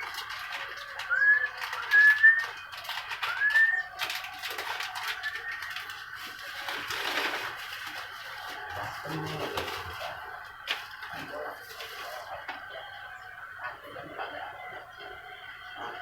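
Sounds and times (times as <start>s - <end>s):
clicky chatter: 0.0s - 16.0s.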